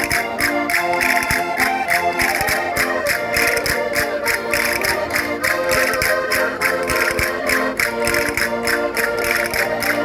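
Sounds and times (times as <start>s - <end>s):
concertina music: 0.0s - 10.0s.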